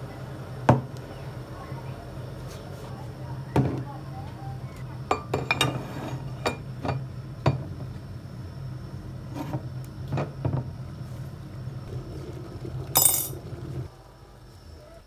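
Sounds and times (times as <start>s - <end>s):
kettle boiling rumble: 0.0s - 15.0s.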